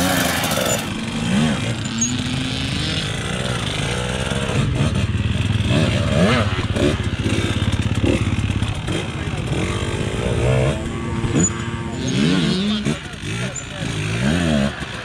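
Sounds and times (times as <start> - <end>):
dirt bike engine revving: 0.0 - 15.0
second dirt bike running: 0.0 - 15.0.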